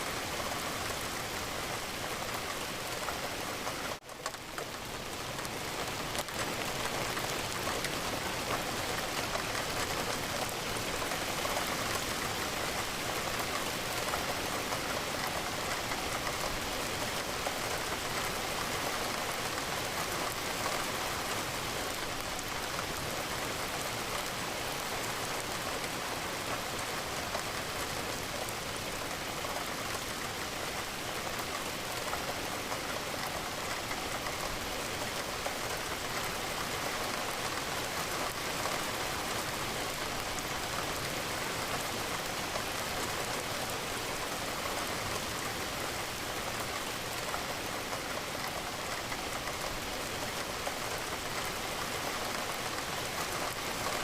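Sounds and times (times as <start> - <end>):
rain against a window: 0.0 - 54.0.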